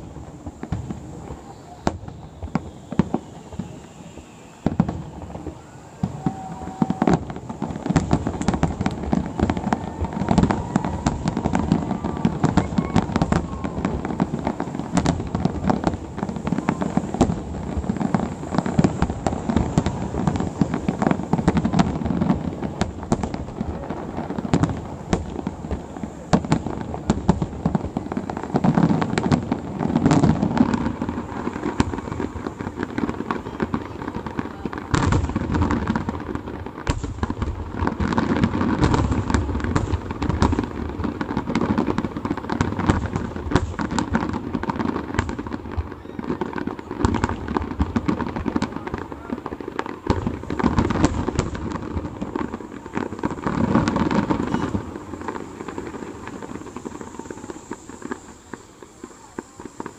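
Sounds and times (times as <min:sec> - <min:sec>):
fireworks booming and banging: 0:00.0 - 0:59.9.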